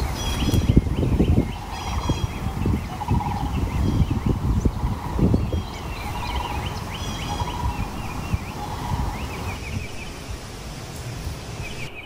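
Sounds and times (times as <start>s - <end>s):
birds chirping and trilling: 0.0s - 12.0s
gusty low rumble: 0.0s - 12.0s.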